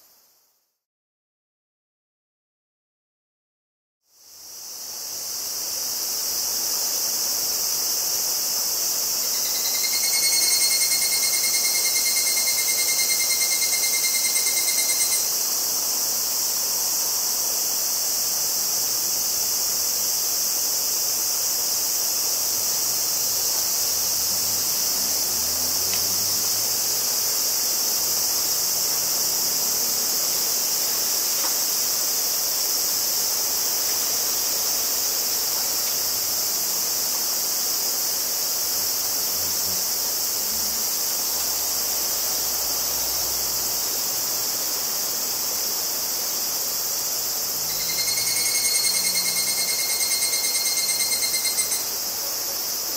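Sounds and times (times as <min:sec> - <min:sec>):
high-pitched insect chorus: 0:04.1 - 0:52.9
cicada ringing pulsing call: 0:04.3 - 0:52.9.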